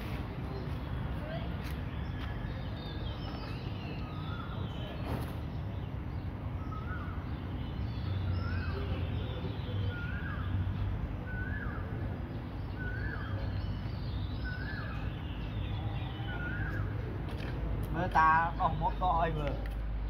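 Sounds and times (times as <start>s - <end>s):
bird chirping: 0.5s - 17.2s.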